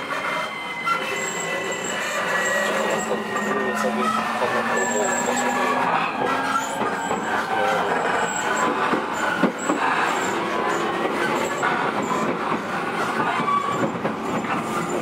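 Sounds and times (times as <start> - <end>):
short track squeals: 0.0 - 15.0
train running noise inside car: 0.0 - 15.0.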